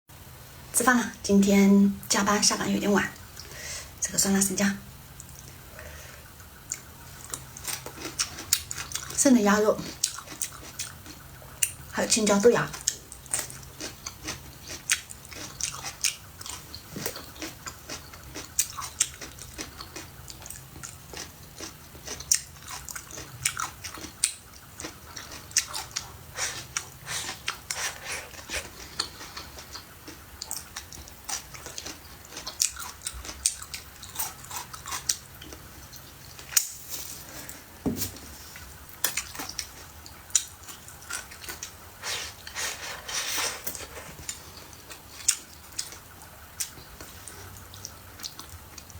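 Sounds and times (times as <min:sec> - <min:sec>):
person chewing crunchy food: 0:06.7 - 0:09.2, 0:09.8 - 0:11.9, 0:12.7 - 0:48.9.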